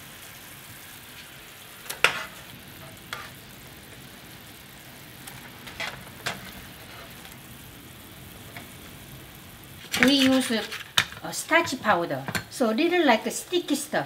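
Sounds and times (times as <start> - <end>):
sauce sizzling in a frying pan: 0.0 - 14.0.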